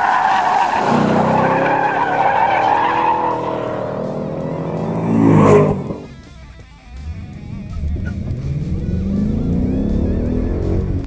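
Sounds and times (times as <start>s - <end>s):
car tyres squealing: 0.0s - 6.1s, 7.6s - 10.7s
car engine accelerating: 0.0s - 11.0s.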